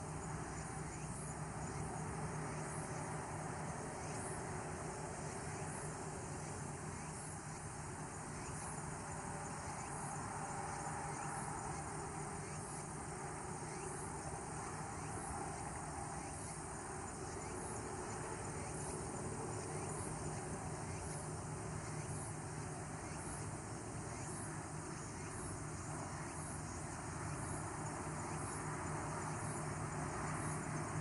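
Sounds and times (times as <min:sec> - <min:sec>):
background hiss: 0:00.0 - 0:31.0
insects chirping: 0:00.0 - 0:31.0.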